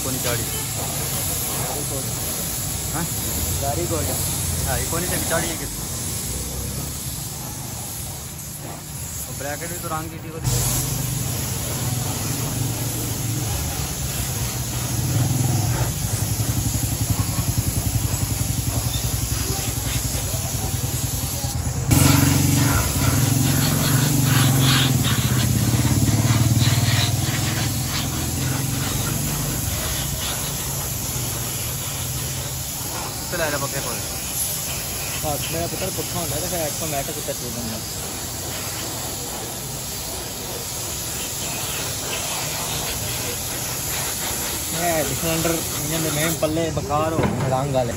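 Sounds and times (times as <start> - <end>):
paint spray gun hissing: 0.0 - 47.9.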